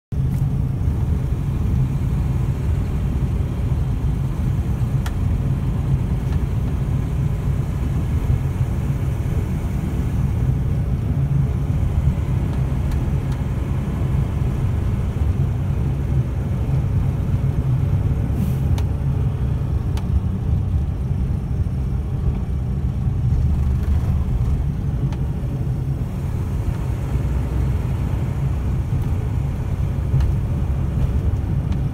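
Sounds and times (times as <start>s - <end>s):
road noise: 0.1s - 31.9s
snowplow truck engine rumble: 0.1s - 31.9s.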